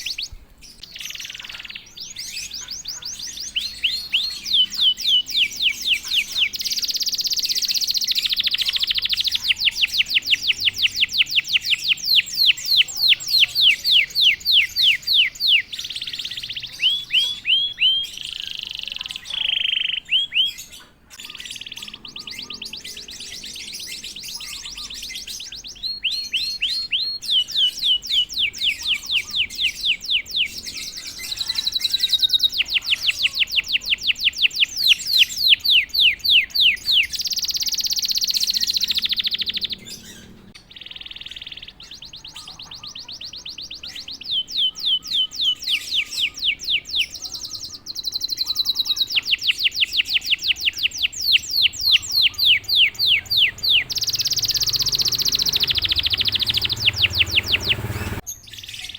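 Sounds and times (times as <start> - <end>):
canary singing trills: 0.0 - 58.9.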